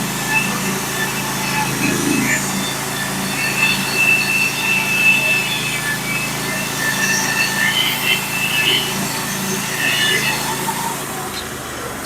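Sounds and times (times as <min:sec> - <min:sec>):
high saw blade whine: 0:00.0 - 0:12.0
sawmill engine hum: 0:00.0 - 0:12.0.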